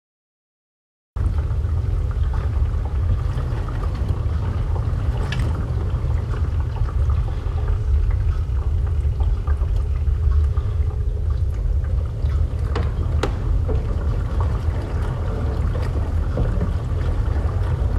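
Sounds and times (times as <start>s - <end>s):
bubbling ticks and crackles: 1.2s - 17.9s
underwater low rumble: 1.2s - 17.9s.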